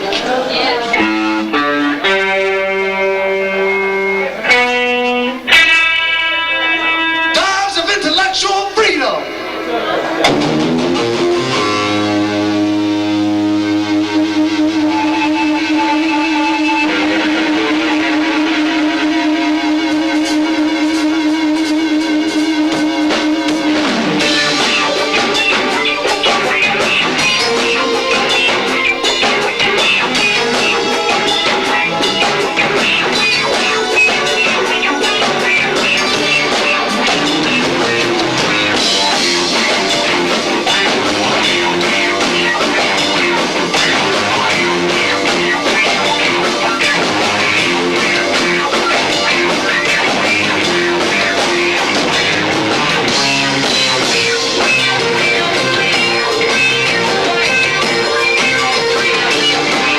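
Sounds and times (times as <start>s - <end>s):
bass guitar: 0.0s - 7.5s, 8.7s - 59.9s
distorted electric guitar: 0.0s - 59.9s
drum kit: 0.0s - 59.9s.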